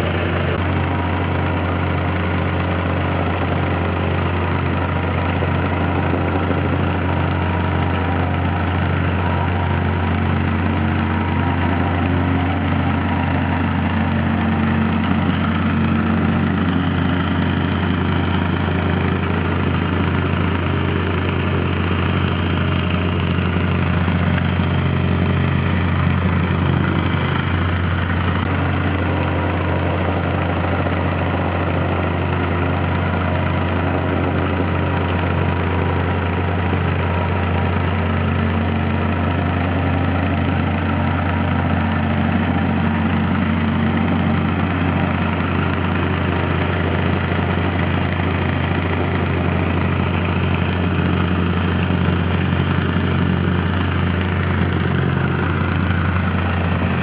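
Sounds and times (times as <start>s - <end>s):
plate compactor droning: 0.0s - 57.0s.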